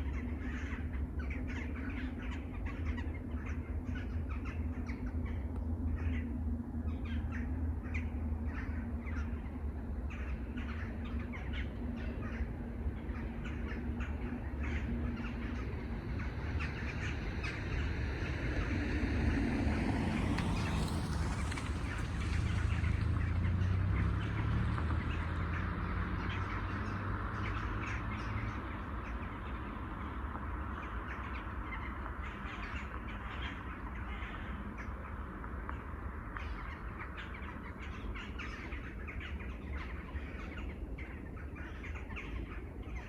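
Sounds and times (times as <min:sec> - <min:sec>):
steady low rumble: 0:00.0 - 0:43.0.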